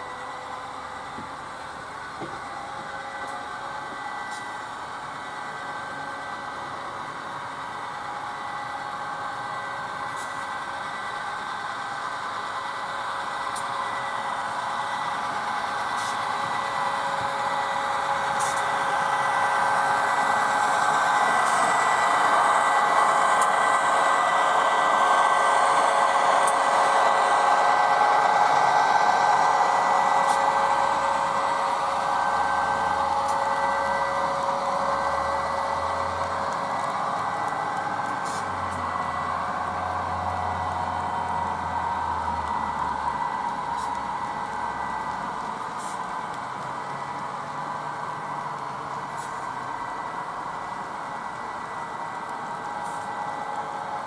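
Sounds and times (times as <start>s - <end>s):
model train whirring: 0.0s - 54.0s.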